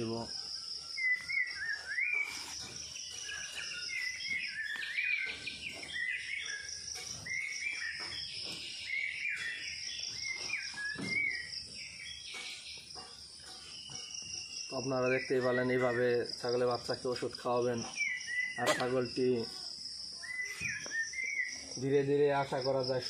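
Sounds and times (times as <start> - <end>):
insects droning: 0.0 - 23.0
small birds chirping: 0.0 - 23.0.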